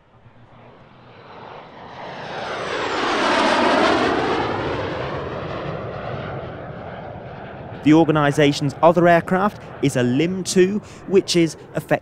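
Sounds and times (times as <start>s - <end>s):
jet passing: 0.0s - 12.0s.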